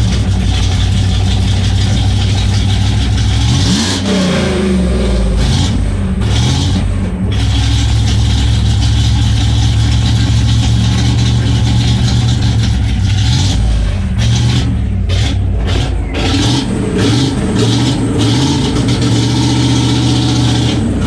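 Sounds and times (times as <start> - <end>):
loud low car exhaust: 0.0 - 21.0.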